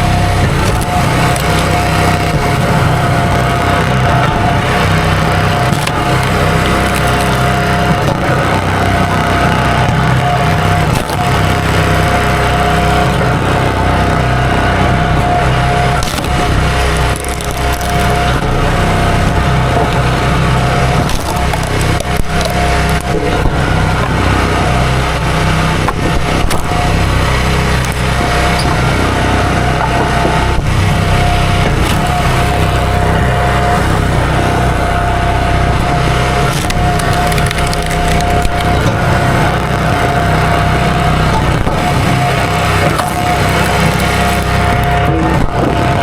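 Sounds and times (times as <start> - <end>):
high whine: 0.0 - 46.0
small gasoline engine running: 0.0 - 46.0
wood cracking and splintering: 0.0 - 46.0.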